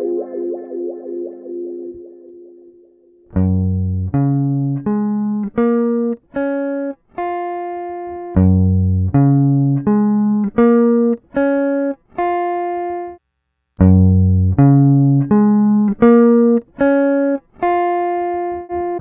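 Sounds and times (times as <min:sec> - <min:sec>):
electric guitar picked notes: 0:00.0 - 0:13.2, 0:13.8 - 0:19.0.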